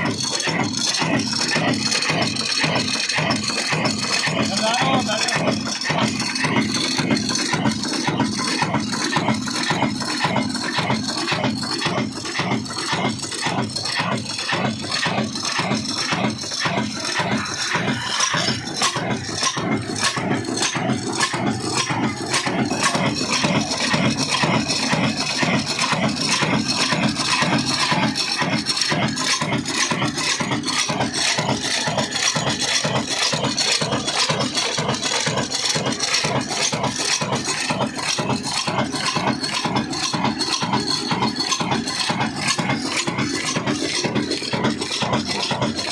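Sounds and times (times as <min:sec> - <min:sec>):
diesel engine knocking and clattering: 0:00.0 - 0:45.9.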